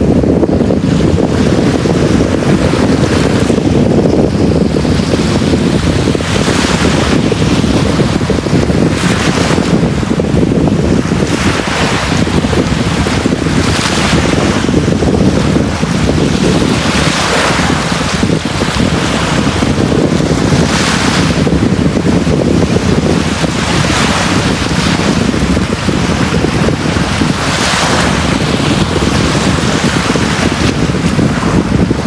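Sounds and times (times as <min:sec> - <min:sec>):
sea waves breaking on beach: 0:00.0 - 0:32.0.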